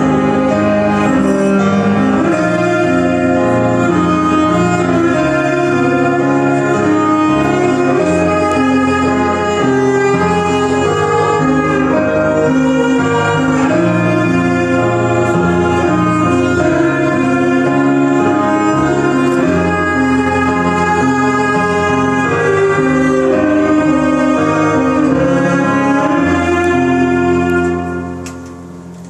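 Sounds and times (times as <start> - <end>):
bowed cello notes: 0.0 - 29.0
keyboard chords: 0.0 - 29.0.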